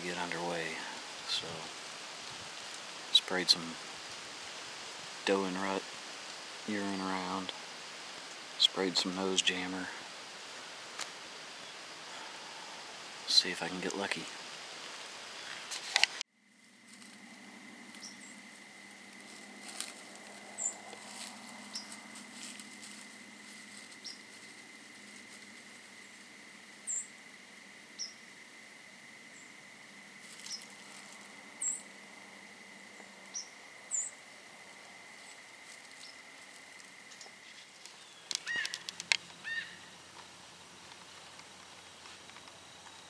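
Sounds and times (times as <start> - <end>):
animal rustling through dry leaves: 0.2 - 13.3, 14.2 - 26.6, 30.0 - 32.0, 34.8 - 43.0.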